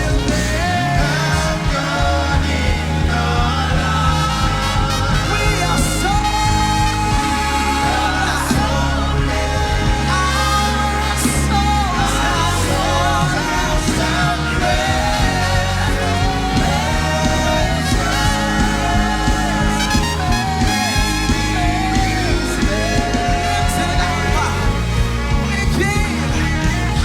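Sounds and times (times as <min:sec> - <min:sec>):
band with bass and drums: 0:00.0 - 0:27.0
singers carrying a melody: 0:00.0 - 0:27.0.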